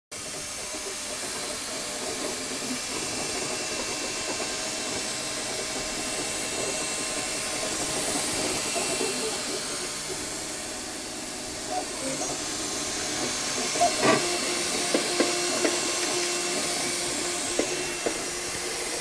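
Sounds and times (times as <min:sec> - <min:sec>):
printer fans hissing: 0:00.2 - 0:19.0.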